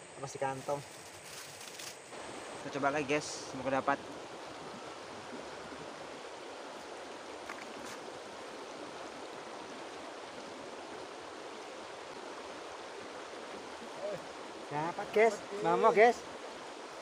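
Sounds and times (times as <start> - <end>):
river rushing over stones: 2.1 - 17.0.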